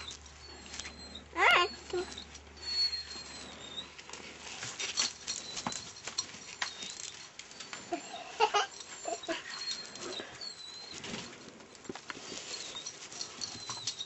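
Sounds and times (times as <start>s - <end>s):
dog whining: 0.0s - 14.0s.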